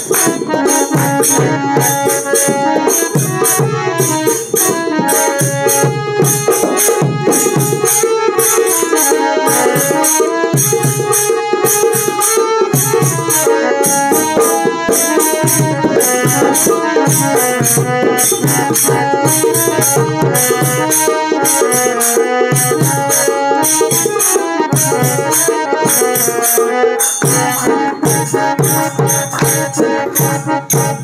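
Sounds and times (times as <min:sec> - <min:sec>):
dholki drum: 0:00.0 - 0:31.0
harmonium melody: 0:00.0 - 0:31.0
jingling percussion: 0:00.0 - 0:31.0.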